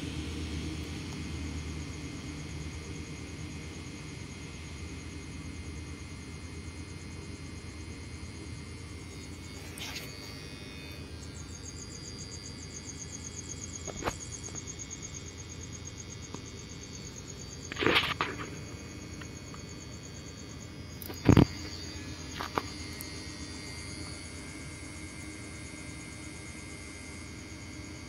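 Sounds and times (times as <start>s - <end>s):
steady outdoor hiss: 0.0s - 28.0s
crickets chirping: 0.1s - 28.0s.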